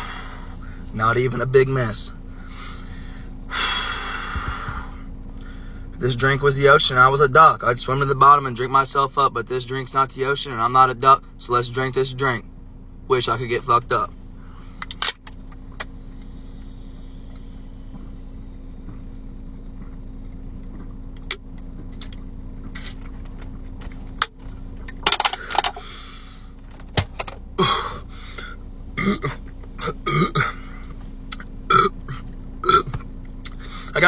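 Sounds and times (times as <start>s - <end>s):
car engine hum inside cabin: 0.0s - 34.0s.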